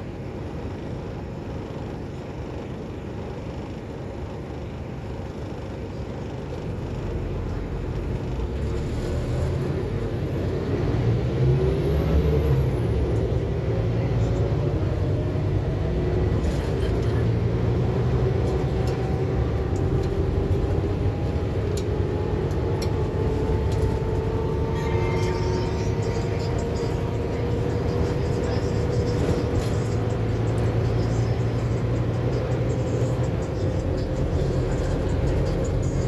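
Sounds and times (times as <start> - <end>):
bus engine rumble and whine: 0.0 - 36.0.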